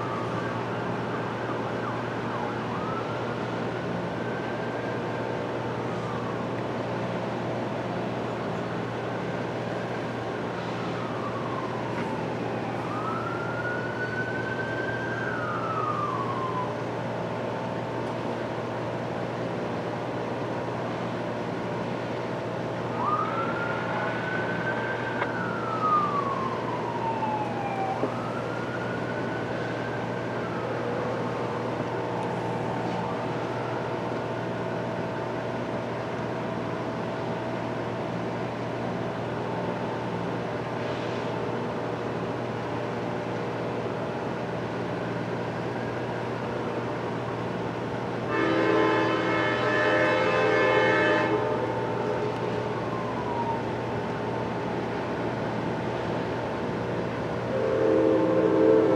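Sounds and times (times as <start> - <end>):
emergency vehicle siren wailing: 0.0 - 58.9.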